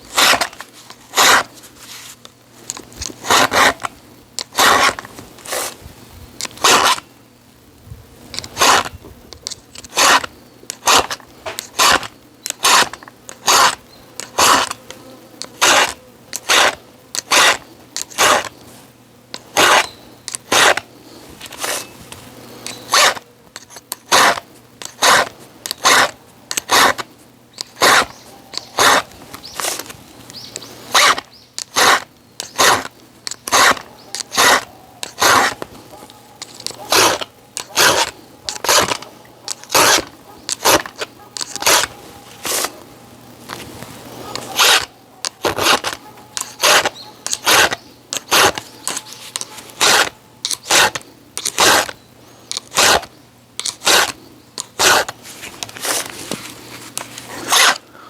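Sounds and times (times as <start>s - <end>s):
hand tool rasping strokes: 0.0s - 5.8s, 6.4s - 7.0s, 8.3s - 14.8s, 15.4s - 18.6s, 19.3s - 21.9s, 22.6s - 42.8s, 43.5s - 57.9s.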